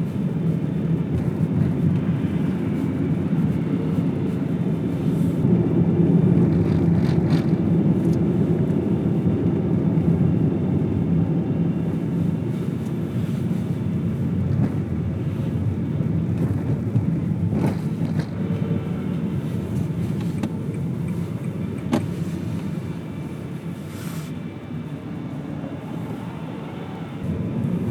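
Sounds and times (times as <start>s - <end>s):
car engine and tyre rumble: 0.0s - 27.9s.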